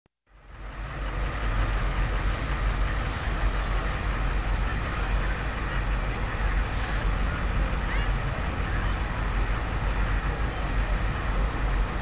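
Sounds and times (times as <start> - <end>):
bus engine rumbling: 0.3 - 12.0.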